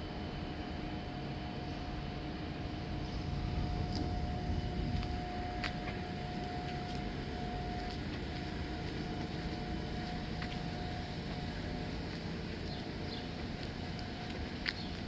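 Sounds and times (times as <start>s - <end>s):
thin steady whine: 0.0s - 15.0s
train wheels rumbling on rails: 0.0s - 15.0s.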